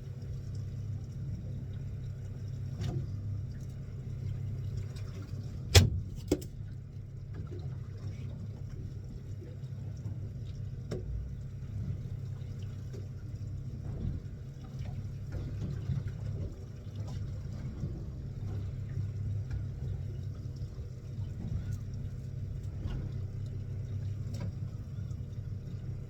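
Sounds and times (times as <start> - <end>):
boat engine droning: 0.0 - 26.0
water splashing and sloshing: 0.0 - 26.0.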